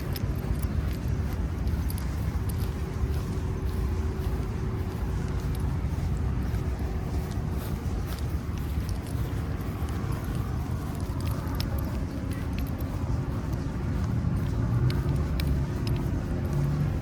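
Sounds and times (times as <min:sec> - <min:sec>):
light clicks: 0:00.0 - 0:17.0
vehicle engine running: 0:00.0 - 0:17.0.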